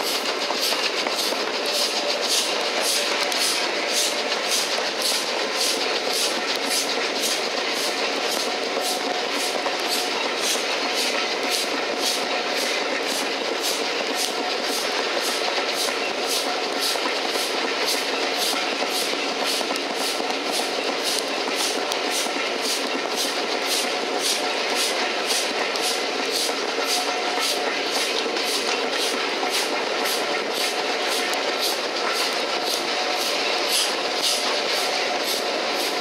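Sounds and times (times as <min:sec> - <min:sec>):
steam locomotive beat: 0:00.0 - 0:36.0
train wheels on rail: 0:00.0 - 0:36.0.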